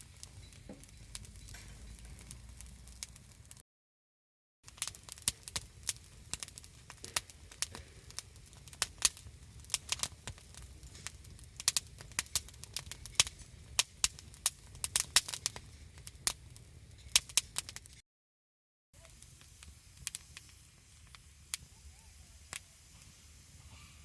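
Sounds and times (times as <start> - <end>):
campfire crackling: 0.0 - 3.6, 4.7 - 18.0, 19.0 - 24.0.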